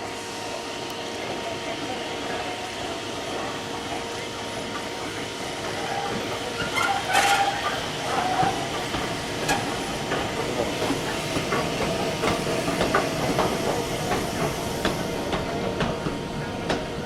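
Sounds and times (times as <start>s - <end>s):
steam hissing: 0.0s - 17.0s
train wheels clicking on track: 0.4s - 17.0s.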